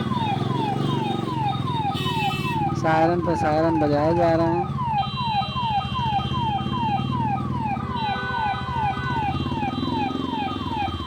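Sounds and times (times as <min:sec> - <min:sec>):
engine and traffic rumble: 0:00.0 - 0:11.0
police sirens wailing: 0:00.0 - 0:11.0.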